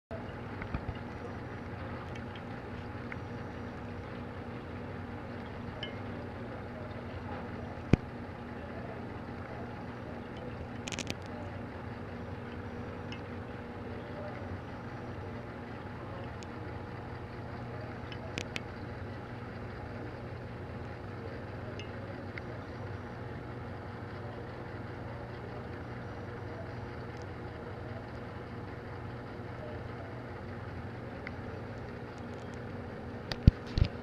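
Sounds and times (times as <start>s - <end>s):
aquarium equipment humming: 0.1s - 34.0s.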